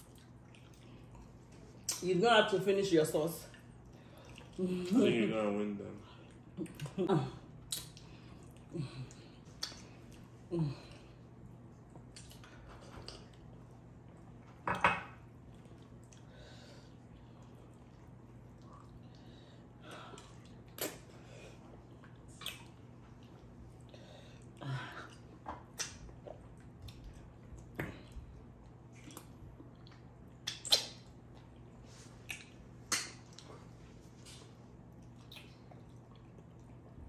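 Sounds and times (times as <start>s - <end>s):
wet chewing sounds: 0.0s - 2.0s, 3.5s - 4.9s, 6.1s - 14.5s, 15.3s - 37.0s
low steady hum: 0.0s - 37.0s.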